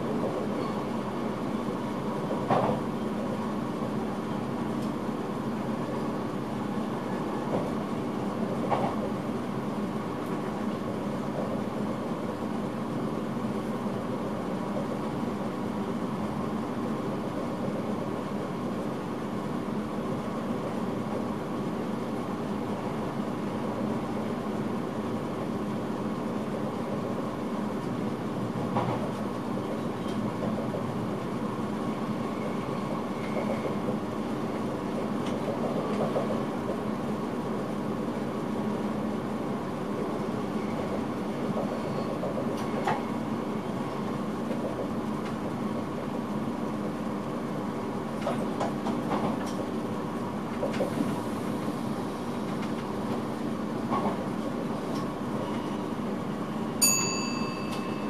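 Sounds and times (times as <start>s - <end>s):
train hum and rolling noise: 0.0s - 58.0s.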